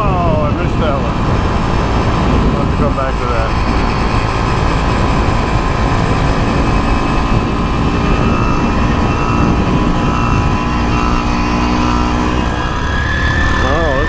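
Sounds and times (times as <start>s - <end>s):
road and wind rumble: 0.0s - 14.0s
small engine buzzing: 1.1s - 14.0s.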